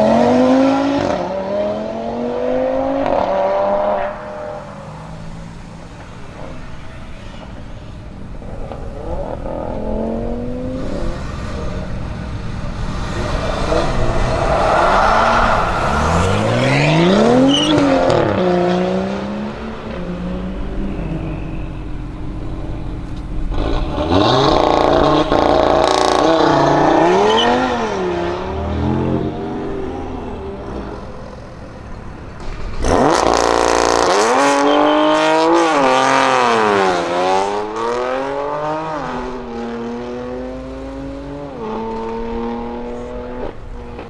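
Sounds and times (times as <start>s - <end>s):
car engine revving and accelerating: 0.0s - 5.8s, 8.4s - 31.4s, 32.4s - 44.0s.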